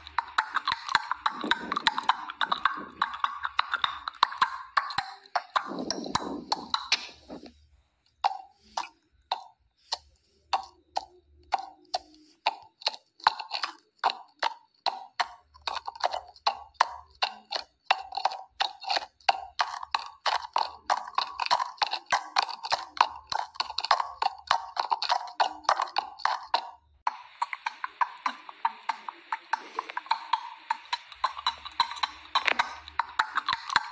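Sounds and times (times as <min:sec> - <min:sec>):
horse hoofbeats clip-clop: 0:00.0 - 0:07.5, 0:10.6 - 0:33.9.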